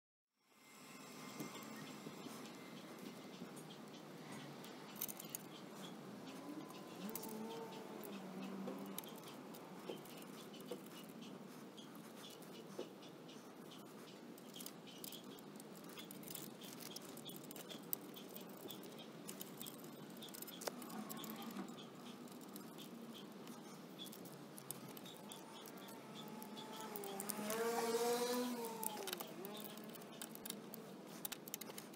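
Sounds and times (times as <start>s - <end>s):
small metal clicks and ticks: 1.2s - 31.9s.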